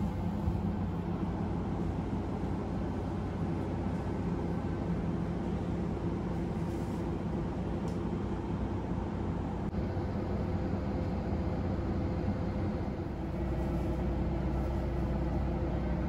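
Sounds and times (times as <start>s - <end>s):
diesel railcar engine hum: 0.0s - 16.0s
train running rumble: 0.0s - 16.0s.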